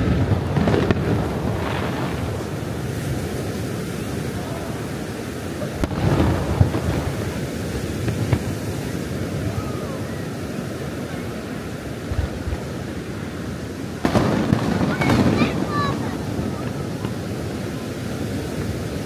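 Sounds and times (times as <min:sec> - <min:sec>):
firework bangs: 0:00.0 - 0:19.0
surf rushing: 0:00.0 - 0:19.0
wind on microphone: 0:00.0 - 0:19.0.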